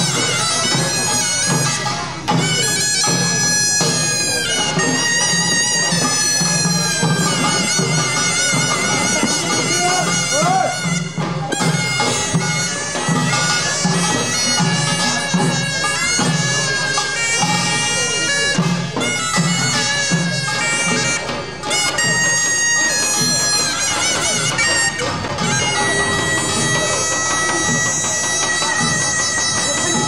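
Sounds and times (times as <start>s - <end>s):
drums beating: 0.0s - 30.0s
shawm playing wavering melody: 0.0s - 30.0s.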